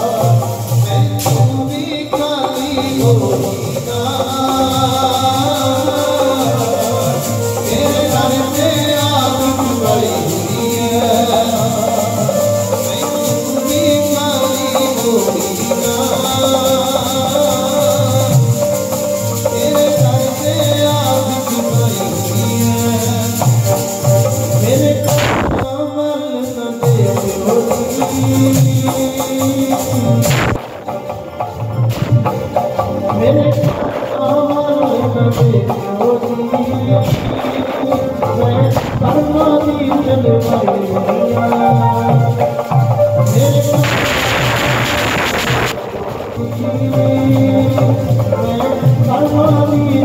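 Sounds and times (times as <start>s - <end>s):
harmonium: 0.0s - 50.0s
man singing: 0.0s - 50.0s
tabla drumming: 0.0s - 50.0s.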